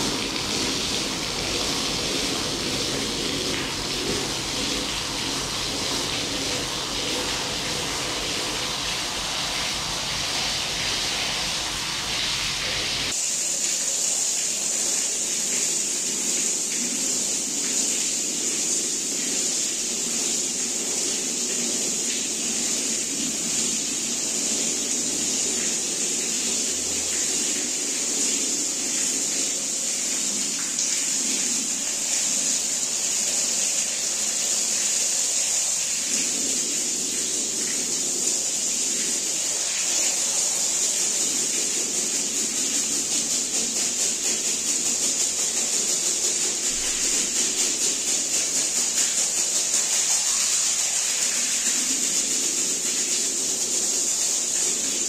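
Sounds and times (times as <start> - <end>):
water jet spraying onto rug: 0.0 - 55.0.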